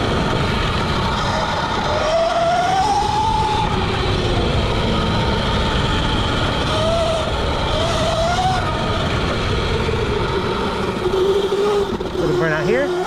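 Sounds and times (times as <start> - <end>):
electric motor and chain whine: 0.0 - 13.0
loud steady rumbling: 0.0 - 13.0.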